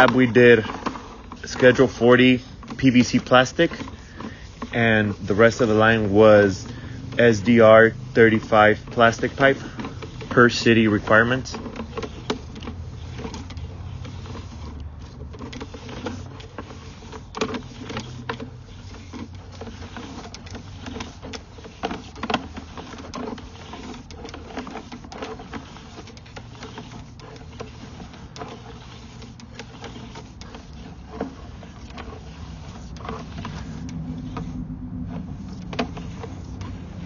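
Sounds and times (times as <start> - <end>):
cable clicking and knocking in pipe: 0.0 - 37.0
steady low hum: 0.0 - 37.0.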